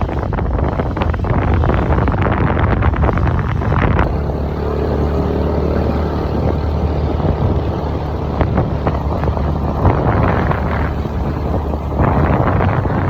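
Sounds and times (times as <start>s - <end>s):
scooter engine running: 0.0s - 13.0s
wind buffeting microphone: 0.0s - 13.0s.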